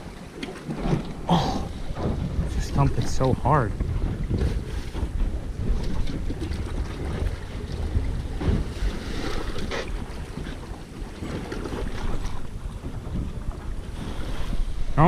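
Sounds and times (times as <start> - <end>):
water sloshing: 0.0 - 15.0
wind buffeting microphone: 0.0 - 15.0.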